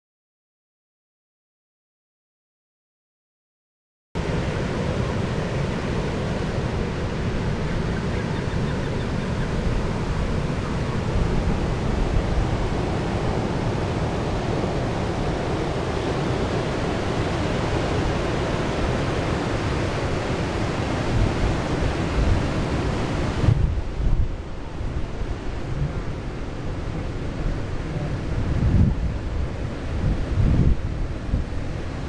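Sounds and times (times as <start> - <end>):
sea waves: 4.2 - 32.0
wind rushing over microphone: 4.2 - 32.0.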